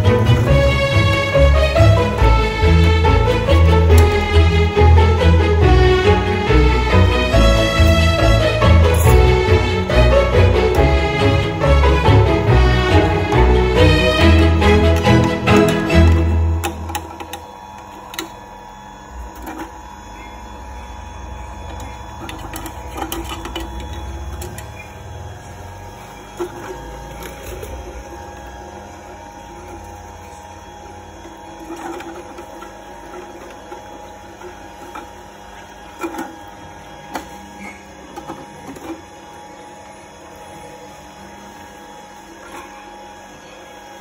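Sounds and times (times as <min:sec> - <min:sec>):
fruit cracking in juicer: 0:00.0 - 0:44.0
juicer motor whirring: 0:00.0 - 0:44.0.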